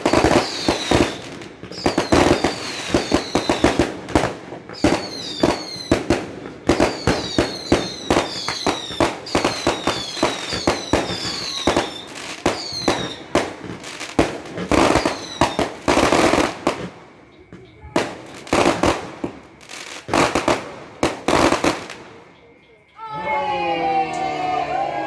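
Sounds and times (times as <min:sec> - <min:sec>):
falling firework whistles: 0:00.0 - 0:22.6
fireworks bangs: 0:00.0 - 0:22.8.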